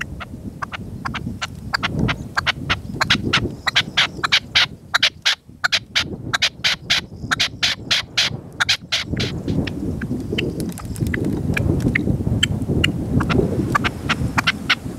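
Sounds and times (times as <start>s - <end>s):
partridge calling: 0.0s - 14.9s
wind rumble on microphone: 0.0s - 14.9s.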